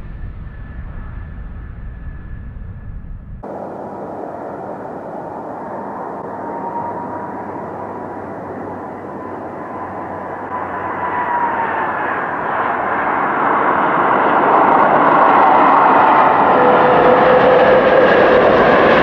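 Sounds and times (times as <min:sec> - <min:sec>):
faint engine whine: 0:00.0 - 0:19.0
jet engine noise: 0:00.0 - 0:19.0.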